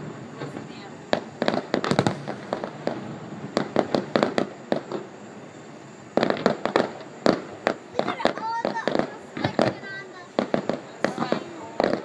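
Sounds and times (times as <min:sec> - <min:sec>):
crackling fireworks stars: 0:00.0 - 0:12.0
fireworks bangs and cracks: 0:00.0 - 0:12.0.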